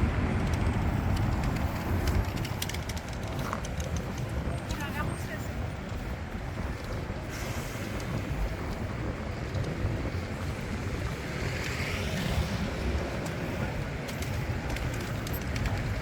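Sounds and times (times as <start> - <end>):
low rumbling city ambience: 0.0 - 16.0.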